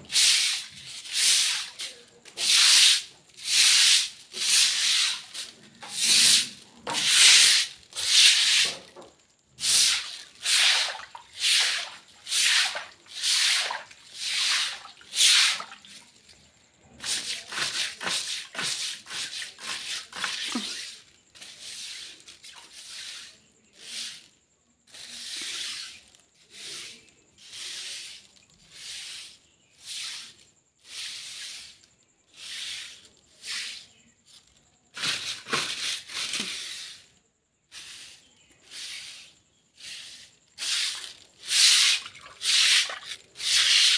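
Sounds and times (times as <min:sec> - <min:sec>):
broom strokes on wet concrete: 0:00.0 - 0:43.9.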